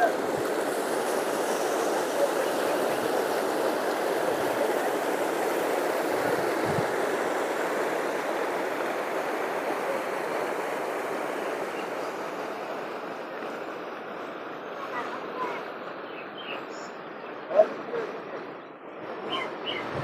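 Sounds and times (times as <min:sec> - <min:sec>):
water cascade rushing: 0:00.0 - 0:20.0.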